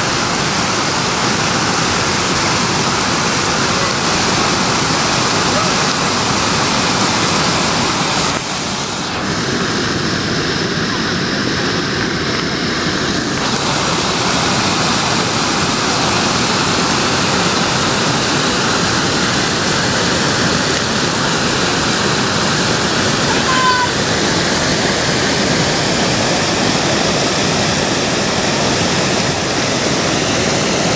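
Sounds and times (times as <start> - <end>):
waterfall splashing over rocks: 0.0 - 30.9.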